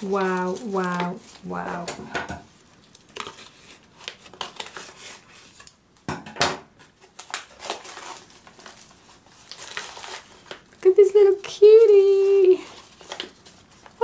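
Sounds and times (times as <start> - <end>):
paper wrapping rustling: 0.0 - 5.7, 6.7 - 14.0.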